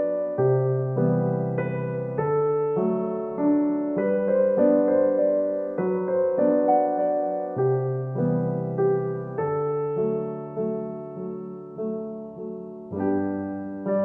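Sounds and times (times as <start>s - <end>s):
soft piano piece: 0.0s - 14.0s.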